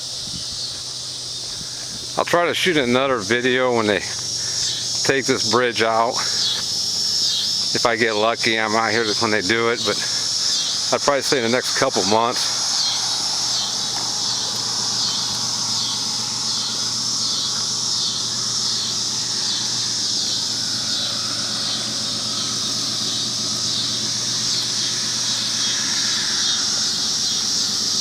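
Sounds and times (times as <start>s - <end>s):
faint low hum: 0.0s - 28.0s
high-pitched insect chorus: 0.0s - 28.0s.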